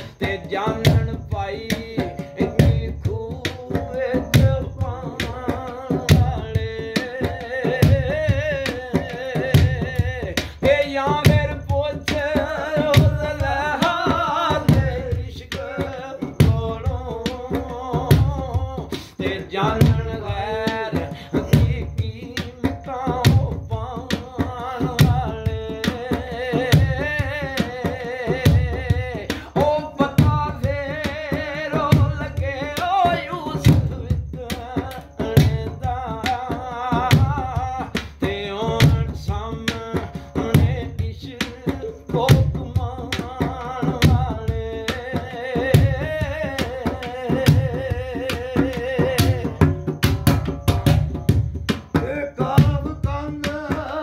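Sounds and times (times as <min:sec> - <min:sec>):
man singing: 0:00.0 - 0:54.0.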